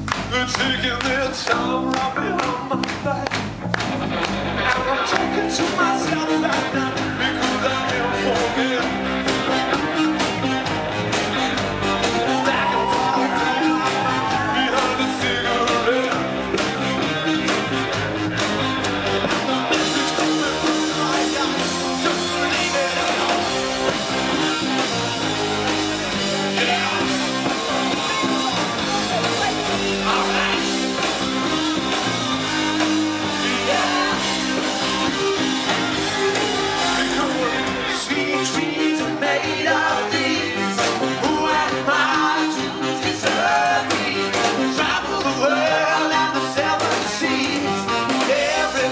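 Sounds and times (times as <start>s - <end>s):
bass guitar: 0.0s - 48.9s
drums keeping a steady beat: 0.0s - 48.9s
electric guitar: 0.0s - 48.9s
person singing: 4.6s - 10.6s, 12.0s - 17.9s, 19.1s - 48.9s.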